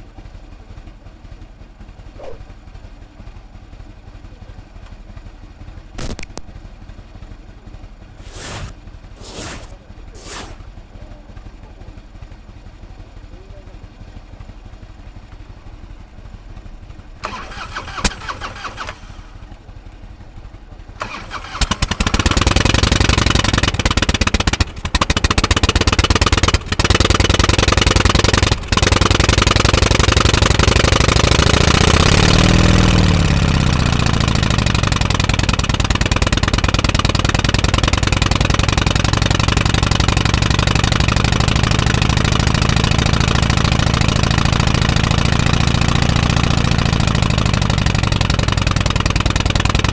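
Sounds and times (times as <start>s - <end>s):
motorcycle engine starting and revving: 0.2s - 49.9s.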